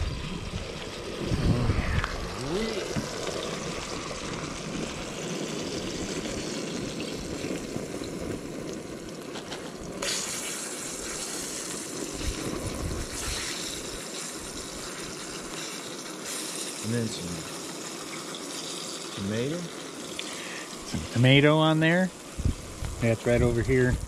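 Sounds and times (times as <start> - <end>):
fish frying in oil: 0.0 - 24.0.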